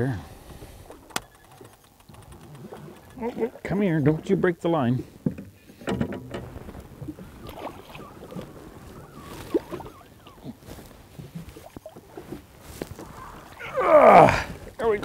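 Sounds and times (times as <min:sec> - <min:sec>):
water splashing against boat: 0:00.3 - 0:15.0.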